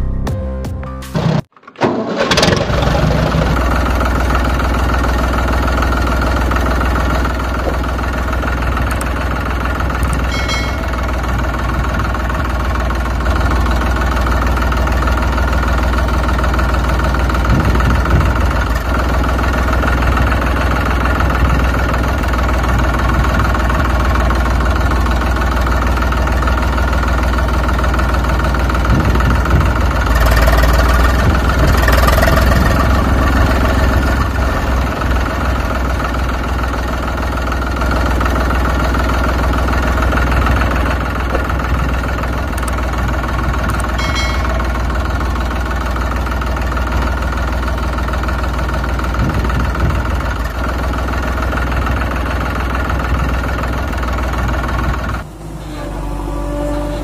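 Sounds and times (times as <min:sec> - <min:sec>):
diesel tractor engine running: 0:01.2 - 0:57.0.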